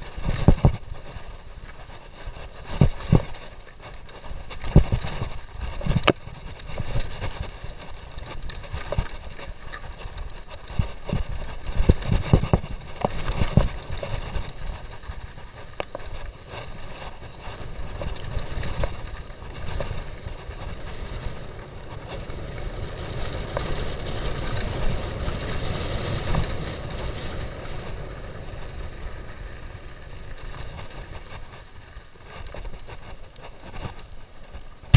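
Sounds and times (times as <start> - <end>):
bike rattling: 0.0 - 34.9
bike tyres on gravel: 0.0 - 34.9
wind on microphone: 0.0 - 34.9.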